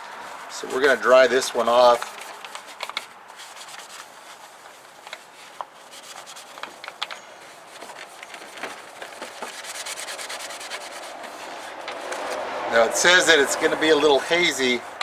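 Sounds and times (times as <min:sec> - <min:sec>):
paper towel wiping lens: 0:00.1 - 0:06.8, 0:07.4 - 0:15.0.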